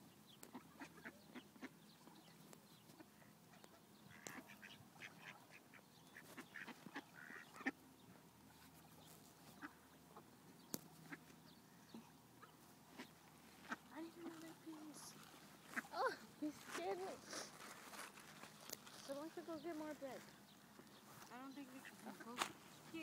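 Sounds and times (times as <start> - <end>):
ducks quacking: 0.4 - 2.2, 2.8 - 7.8, 9.4 - 10.3, 11.0 - 11.3, 11.9 - 17.6, 18.3 - 23.0.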